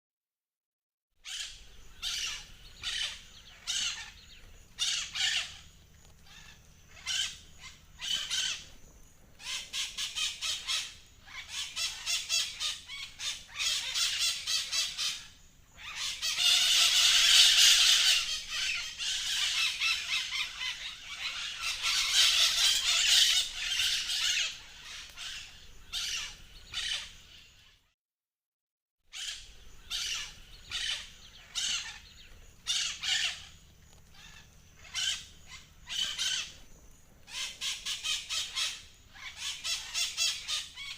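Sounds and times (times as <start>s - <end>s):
parrots squawking: 1.2s - 4.2s, 4.8s - 5.6s, 6.3s - 8.6s, 9.4s - 27.4s, 29.1s - 33.5s, 34.1s - 36.5s, 37.3s - 40.9s.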